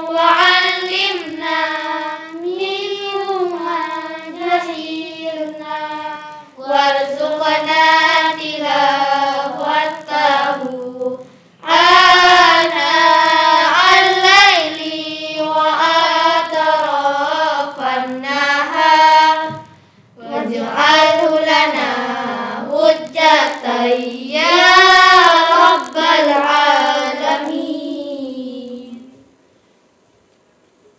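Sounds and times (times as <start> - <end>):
girls chanting recitation: 0.0 - 29.3.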